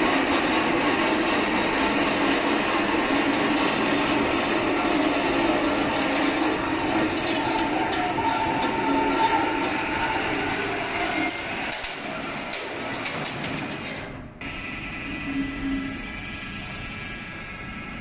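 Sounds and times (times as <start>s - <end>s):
machine hum: 0.0s - 18.0s
machine rumbling: 0.0s - 18.0s.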